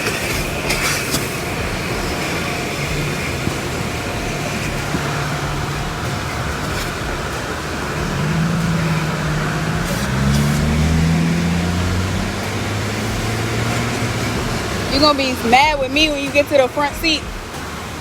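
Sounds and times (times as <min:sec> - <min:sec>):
steady outdoor noise: 0:00.0 - 0:18.0
vehicle engine hum: 0:00.0 - 0:18.0.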